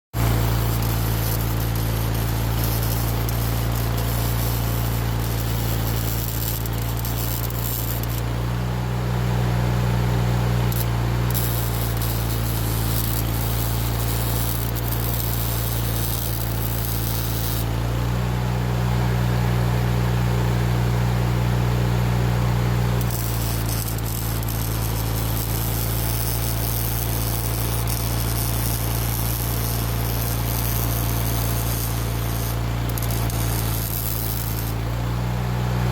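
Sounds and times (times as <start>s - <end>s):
welding arc crackling: 0.2s - 18.2s, 21.9s - 35.9s
welding machine hum: 0.2s - 35.9s.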